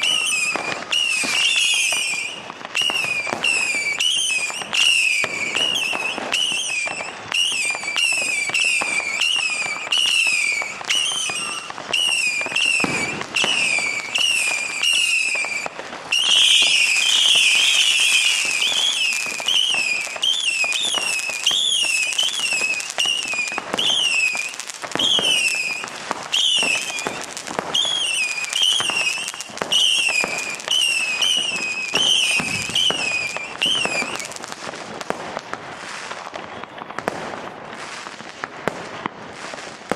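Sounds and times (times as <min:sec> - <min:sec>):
firework whistles dropping in pitch: 0:00.0 - 0:35.0
fireworks crackling and banging: 0:00.0 - 0:39.9.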